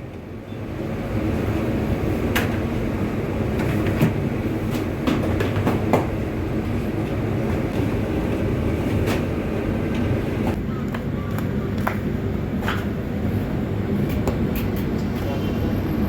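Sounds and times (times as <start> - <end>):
machinery low rumble: 0.0 - 16.0.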